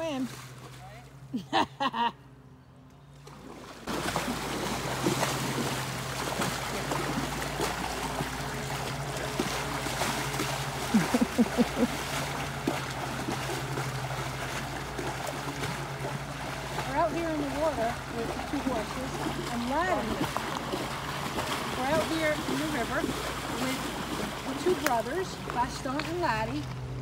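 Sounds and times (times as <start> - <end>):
horses sloshing through water: 0.0 - 1.9, 3.1 - 27.0
low steady hum: 0.0 - 27.0
sharp splashes: 3.2 - 26.6.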